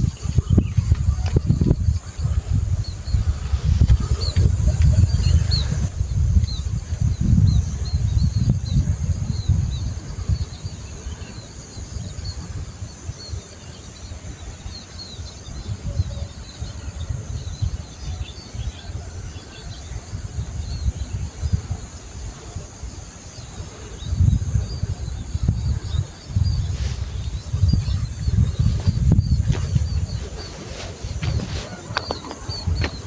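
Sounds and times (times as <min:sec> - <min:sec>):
insect drone: 0:00.0 - 0:33.0
small birds chirping: 0:00.0 - 0:33.0
wind rumble on microphone: 0:00.0 - 0:33.0.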